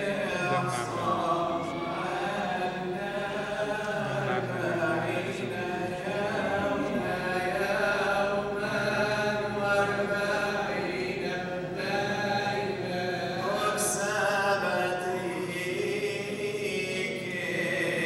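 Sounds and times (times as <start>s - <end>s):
voices chanting a hymn: 0.0s - 18.0s.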